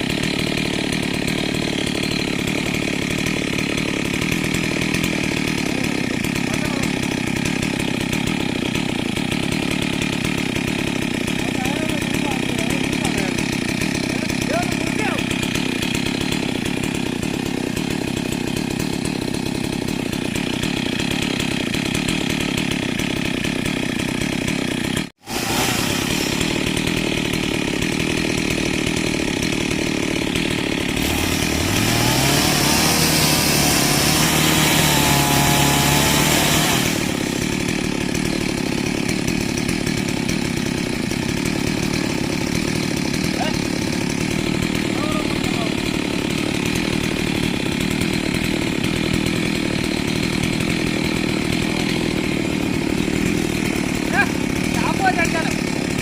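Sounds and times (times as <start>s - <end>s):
chainsaw running and revving: 0.0s - 56.0s.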